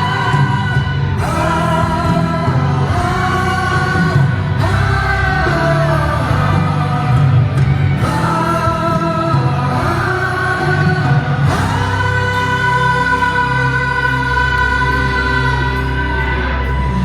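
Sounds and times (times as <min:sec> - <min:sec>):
live band playing: 0:00.0 - 0:17.0
voices singing long notes: 0:00.0 - 0:17.0.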